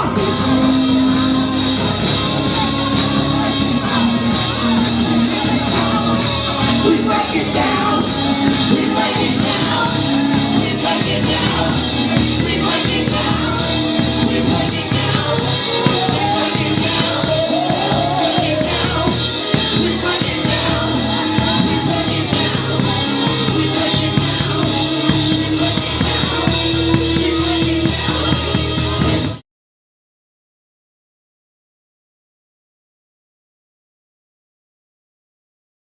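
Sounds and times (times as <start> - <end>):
band music: 0.0 - 29.4
drum kit beat: 0.0 - 29.4
person singing: 0.0 - 29.4.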